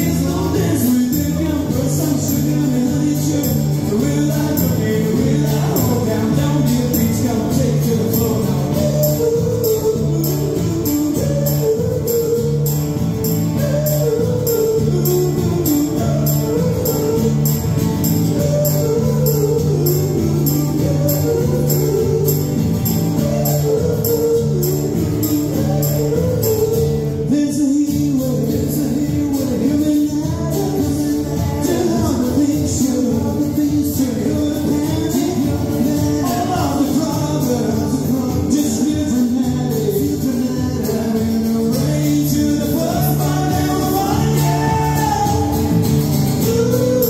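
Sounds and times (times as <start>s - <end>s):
tambourine strokes: 0.0s - 27.3s, 28.4s - 47.0s
acoustic and electric guitars: 0.0s - 47.0s
man singing: 0.0s - 47.0s.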